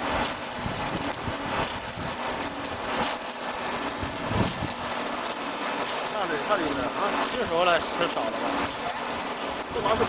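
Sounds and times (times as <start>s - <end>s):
milling machine running: 0.0s - 10.0s.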